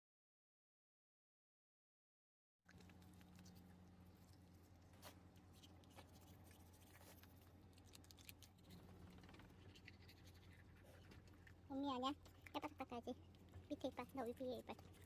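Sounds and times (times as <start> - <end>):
faint low hum: 2.7 - 15.0.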